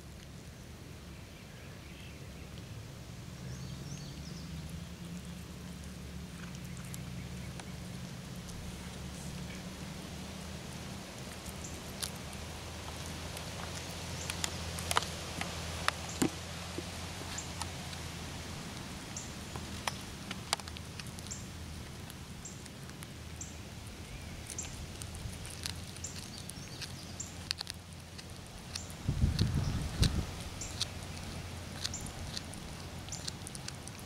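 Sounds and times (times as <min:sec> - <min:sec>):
cat chewing with crunches: 0:04.6 - 0:34.0.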